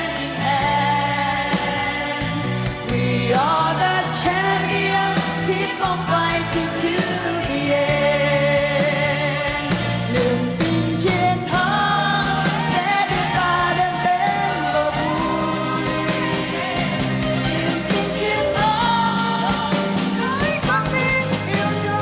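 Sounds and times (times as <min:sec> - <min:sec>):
pop song with singing over band: 0:00.0 - 0:22.0.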